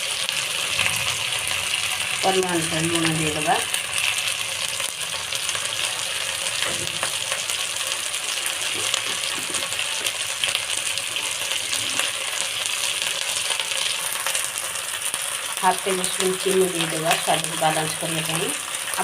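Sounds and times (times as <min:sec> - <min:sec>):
paste sizzling in oil: 0:00.0 - 0:19.0.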